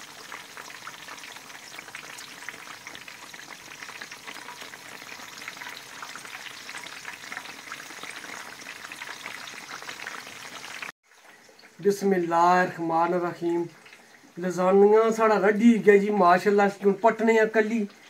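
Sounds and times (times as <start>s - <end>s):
food deep-frying in oil: 0.0s - 18.0s.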